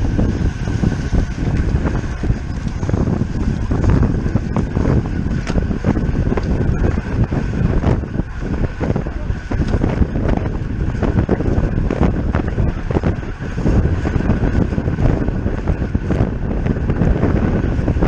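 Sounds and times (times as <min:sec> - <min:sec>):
faint high whine: 0:00.0 - 0:16.4
wind buffeting microphone: 0:00.0 - 0:18.0.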